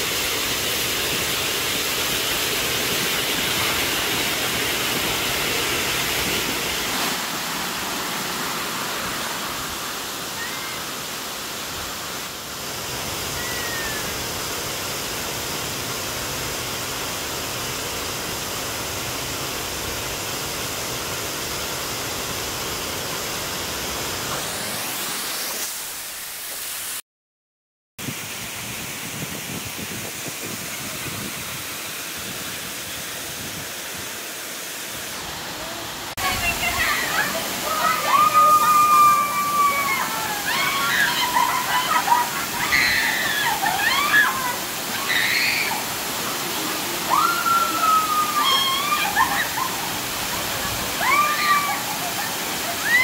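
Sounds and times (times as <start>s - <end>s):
waterfall rushing: 0.0s - 27.0s, 28.1s - 53.0s.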